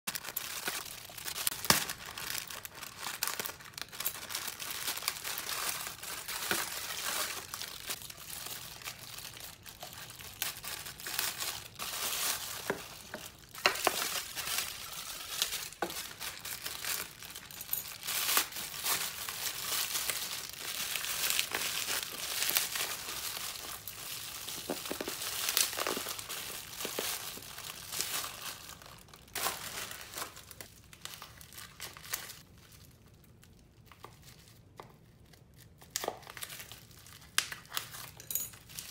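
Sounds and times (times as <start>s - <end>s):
plastic packaging crinkling: 0.1s - 38.9s.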